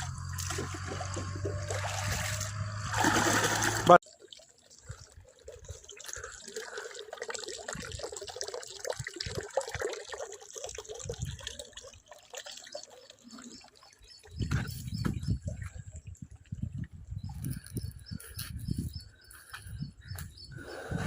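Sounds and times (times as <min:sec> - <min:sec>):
water trickling and gurgling: 0:00.0 - 0:21.0.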